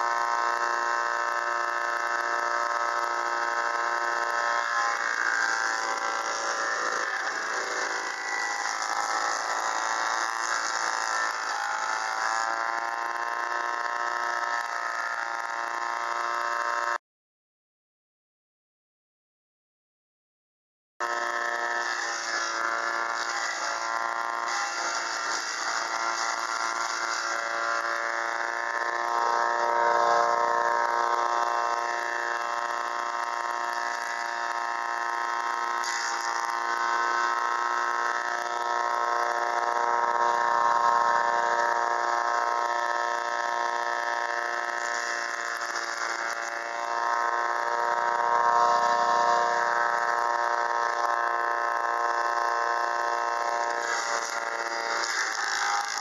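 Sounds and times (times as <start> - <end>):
tractor engine running wood chipper: 0.0 - 17.0, 21.0 - 56.0.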